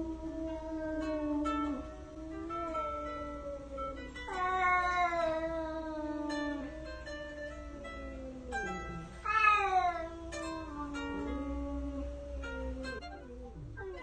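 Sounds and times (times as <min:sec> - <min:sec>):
cat yowling: 0:00.0 - 0:06.9, 0:07.7 - 0:14.0
guitar background music: 0:00.1 - 0:14.0.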